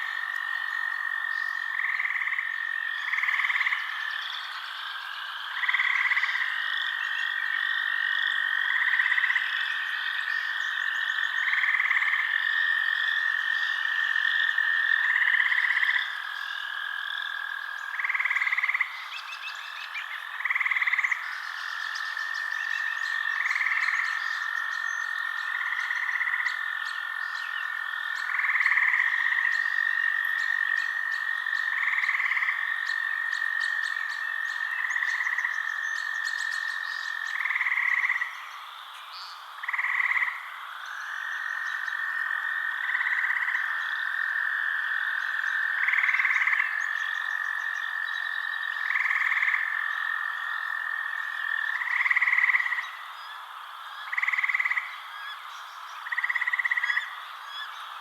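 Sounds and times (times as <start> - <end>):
frog call: 0.0 - 58.0.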